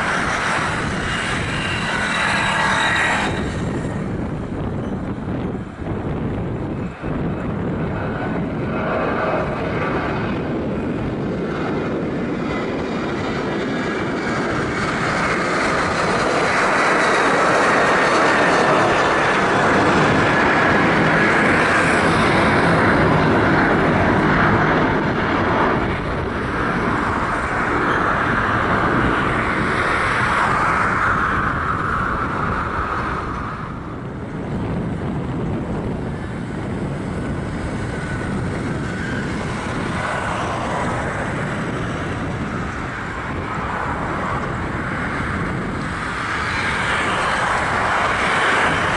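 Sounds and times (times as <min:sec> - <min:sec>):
distant jet engine noise: 0:00.0 - 0:48.9
jet airliner taking off: 0:00.0 - 0:48.9.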